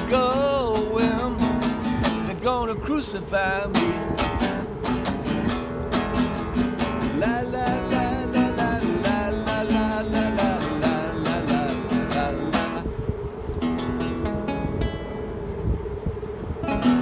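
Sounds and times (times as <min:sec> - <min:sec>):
nylon-string guitar strumming: 0:00.0 - 0:12.9, 0:13.5 - 0:15.5, 0:16.6 - 0:17.0.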